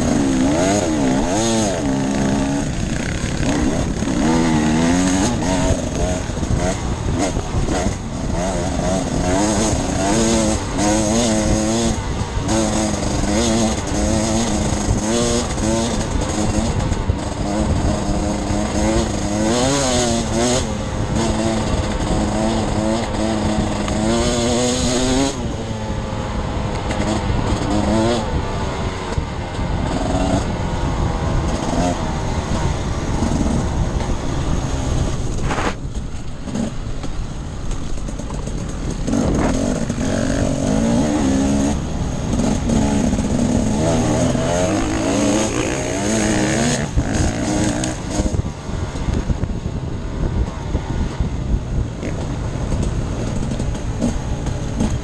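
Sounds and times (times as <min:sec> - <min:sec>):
motorcycle engine revving: 0:00.0 - 0:55.0
wind rumbling on microphone: 0:00.0 - 0:55.0.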